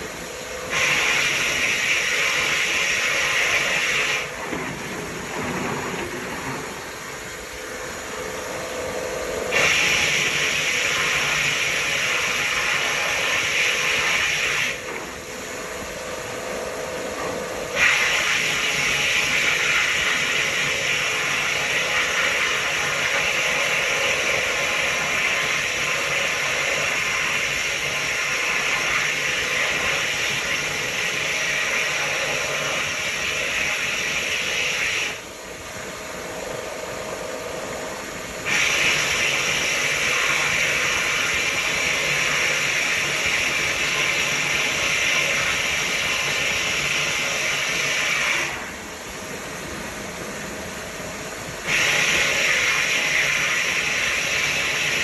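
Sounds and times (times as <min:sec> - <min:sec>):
blast gun spraying hiss: 0:00.0 - 0:08.4, 0:09.5 - 0:14.9, 0:17.7 - 0:35.2, 0:38.4 - 0:48.7, 0:51.6 - 0:55.0.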